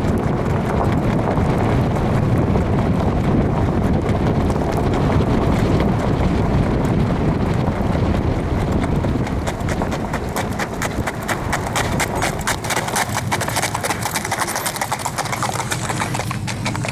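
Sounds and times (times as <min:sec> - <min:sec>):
rapid horse hoofbeats: 0:00.0 - 0:16.9
wind rumble on microphone: 0:00.0 - 0:16.9.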